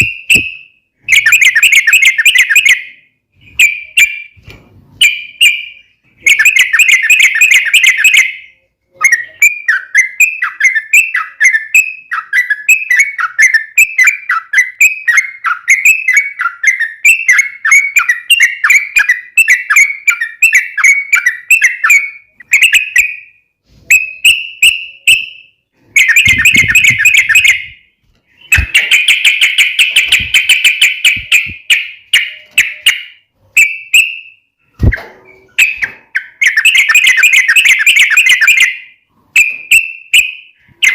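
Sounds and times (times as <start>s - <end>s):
bird chattering song: 0.0s - 4.4s, 5.0s - 40.9s.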